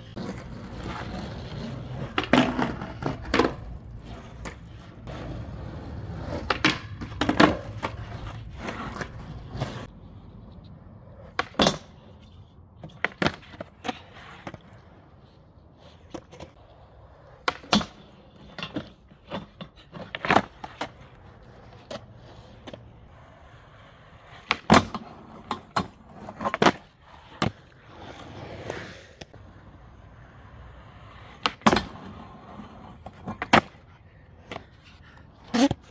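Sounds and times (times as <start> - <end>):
skateboard wheels rolling: 0.0 - 35.9
skateboard clacks: 0.1 - 9.9, 11.1 - 14.7, 16.0 - 23.2, 24.1 - 27.6, 30.4 - 35.9.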